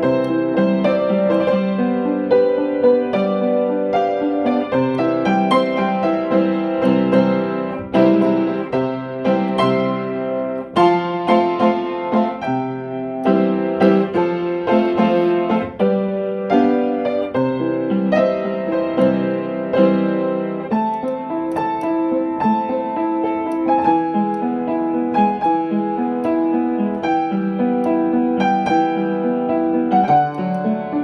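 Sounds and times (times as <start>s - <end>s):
solo piano music: 0.0s - 31.0s.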